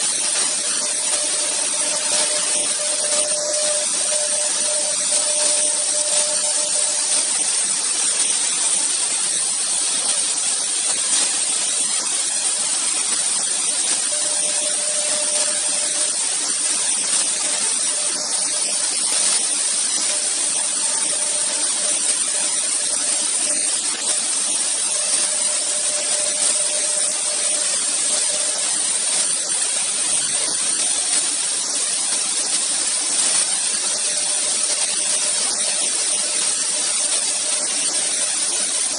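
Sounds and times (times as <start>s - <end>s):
router bits carving wood whine: 0.0s - 38.9s.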